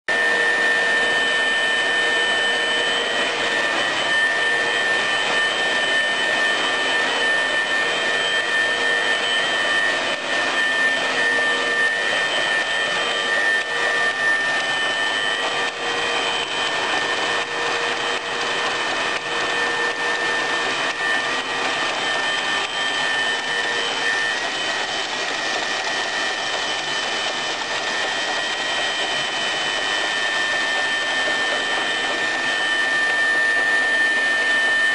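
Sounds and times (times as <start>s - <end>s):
wire cutting machine hissing: 0.1s - 34.9s.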